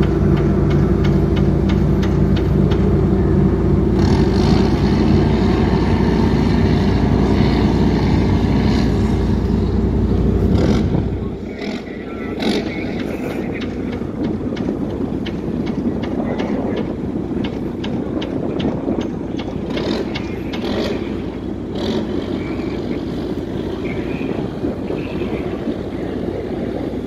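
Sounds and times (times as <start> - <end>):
ship engine rumbling: 0.0 - 27.0.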